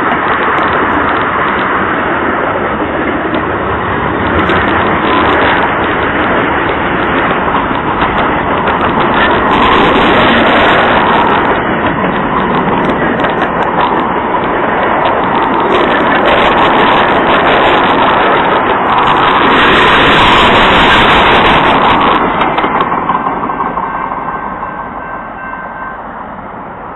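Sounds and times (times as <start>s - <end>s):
train wheels rushing on rail: 0.0s - 26.9s.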